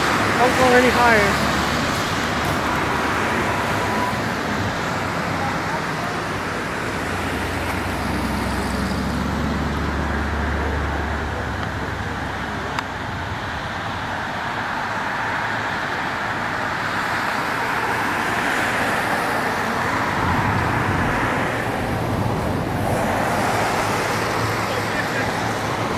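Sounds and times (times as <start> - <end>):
tyre and road noise: 0.0 - 25.9
vehicle engine humming: 0.0 - 25.9
vehicle passing: 0.0 - 25.9.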